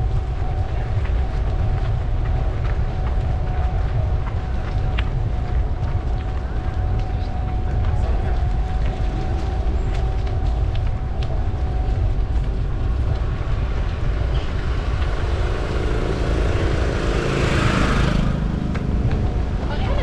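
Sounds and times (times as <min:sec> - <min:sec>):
bicycle tyre noise: 0:00.0 - 0:20.0
wind on microphone: 0:00.0 - 0:20.0.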